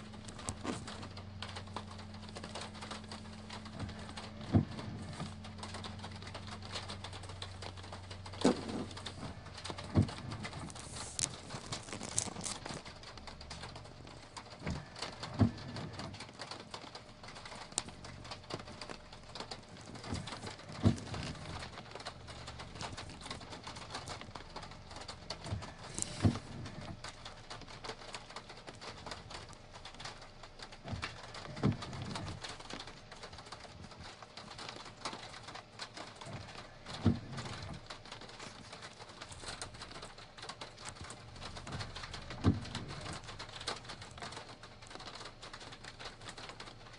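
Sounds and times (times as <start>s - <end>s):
low hum: 0.0s - 46.9s
rain hissing: 0.0s - 46.9s.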